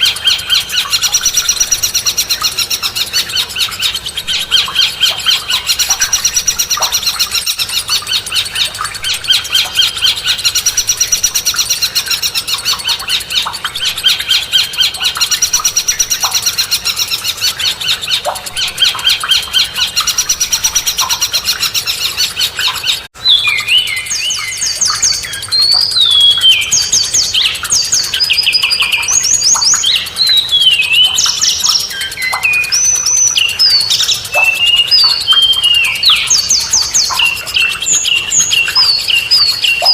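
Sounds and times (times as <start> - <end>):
songbird chattering trill: 0.0 - 39.9.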